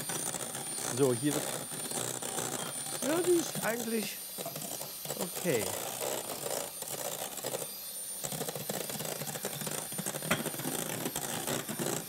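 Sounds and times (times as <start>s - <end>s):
electric hand mixer: 0.0s - 12.0s.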